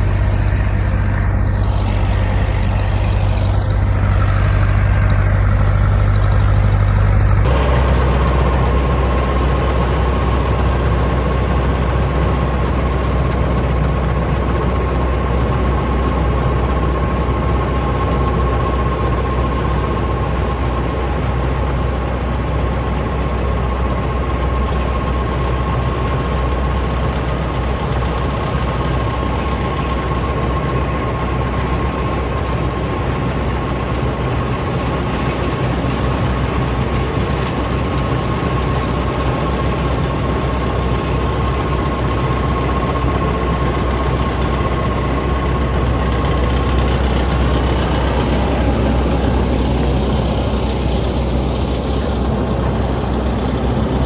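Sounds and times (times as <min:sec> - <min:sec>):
combine harvester diesel drone: 0:00.0 - 0:54.0.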